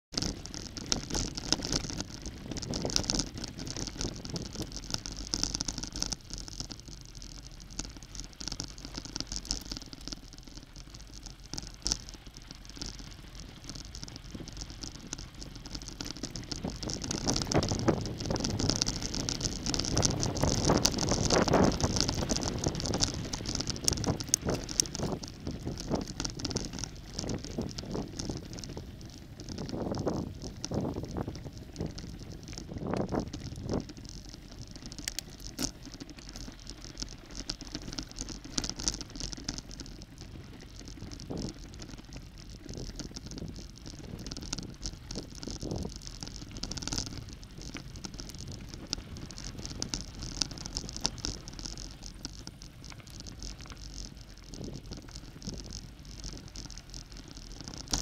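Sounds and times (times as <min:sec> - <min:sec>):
bicycle tyres crunching on gravel: 0:00.1 - 0:58.0
bike rattling over bumps: 0:00.1 - 0:58.0.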